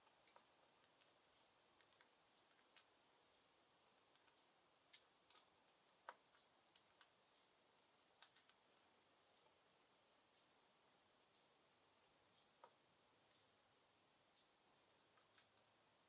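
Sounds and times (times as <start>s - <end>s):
beaks pecking in food bowl: 0.0s - 9.6s, 11.8s - 16.0s.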